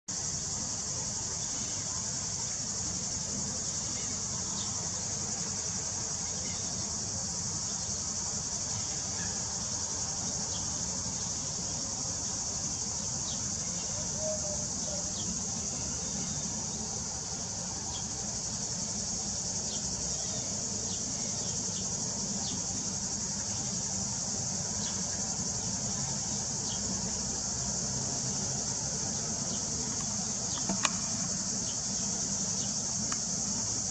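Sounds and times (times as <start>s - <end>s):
insect chorus drone: 0.1s - 33.9s.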